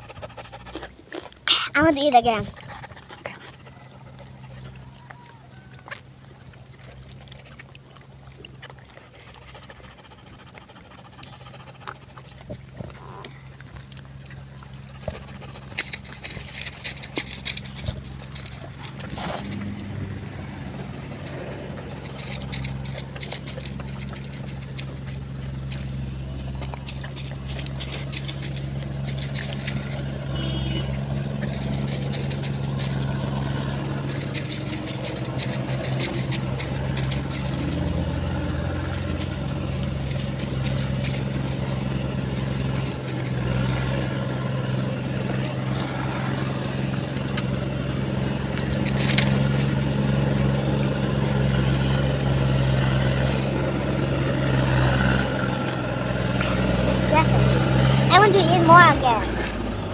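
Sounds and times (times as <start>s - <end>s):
chewing and lip smacking: 0.0s - 59.9s
steady engine hum: 0.0s - 59.9s.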